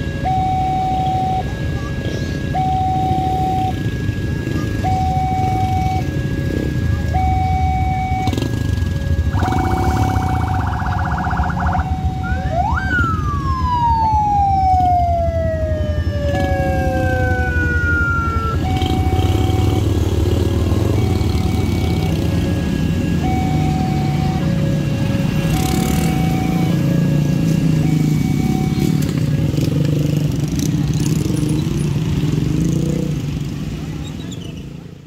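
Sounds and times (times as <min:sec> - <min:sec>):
siren winding up and down: 0:00.0 - 0:01.6, 0:02.4 - 0:30.2
two-tone level-crossing alarm: 0:00.0 - 0:29.3
engines rumbling: 0:00.0 - 0:35.0.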